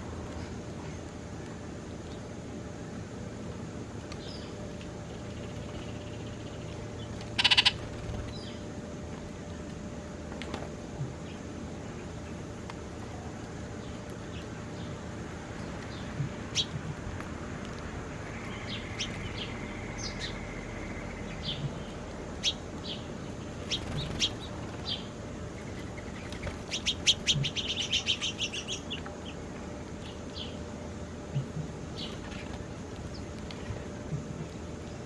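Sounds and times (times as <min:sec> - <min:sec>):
steady background hum: 0:00.0 - 0:35.0
small birds chirping: 0:04.0 - 0:08.7, 0:11.2 - 0:35.0.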